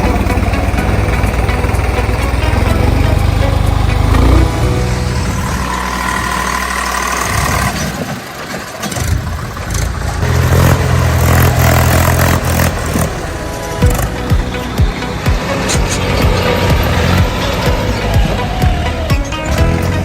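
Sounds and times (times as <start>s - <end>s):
engine knocking: 0.0s - 19.8s
tractor diesel engine running: 0.0s - 20.0s.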